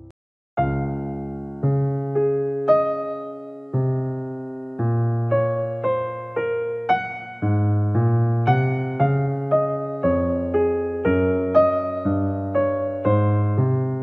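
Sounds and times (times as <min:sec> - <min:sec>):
slow gentle keyboard melody: 0:00.0 - 0:14.0.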